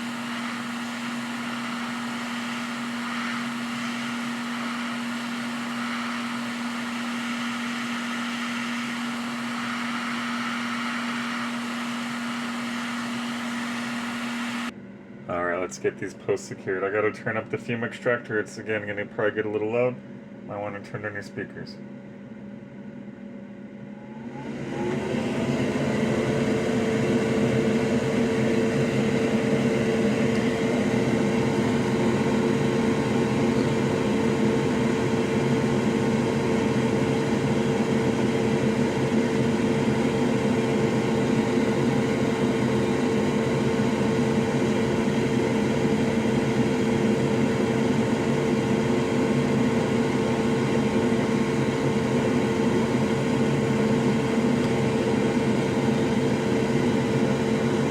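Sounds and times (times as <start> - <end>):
extractor fan whirring: 0.0 - 57.9.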